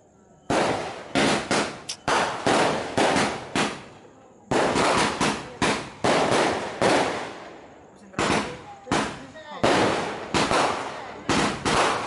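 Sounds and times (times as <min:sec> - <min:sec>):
fireworks bangs with echo: 0:00.4 - 0:12.0.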